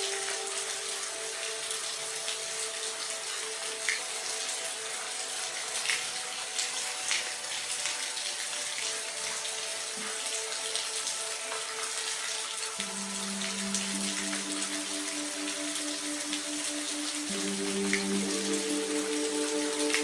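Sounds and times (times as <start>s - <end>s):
drips and splashes: 0.0s - 20.0s
steady rain hiss: 0.0s - 20.0s.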